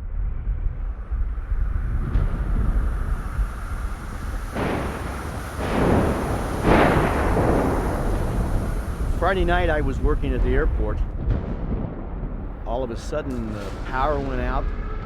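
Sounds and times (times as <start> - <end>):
thunderstorm rumble: 0.0 - 15.0
loud thunder cracks: 0.6 - 15.0.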